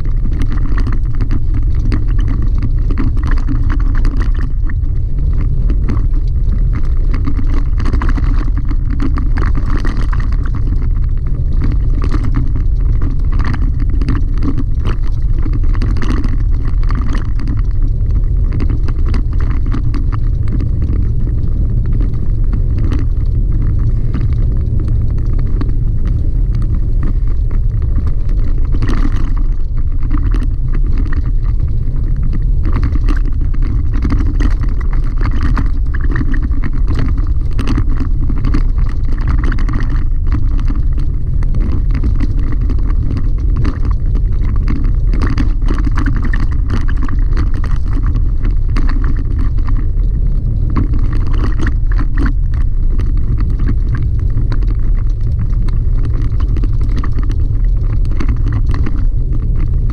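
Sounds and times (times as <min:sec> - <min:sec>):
tyres crackling on gravel: 0:00.0 - 0:59.9
vehicle rumble from inside cab: 0:00.0 - 0:59.9.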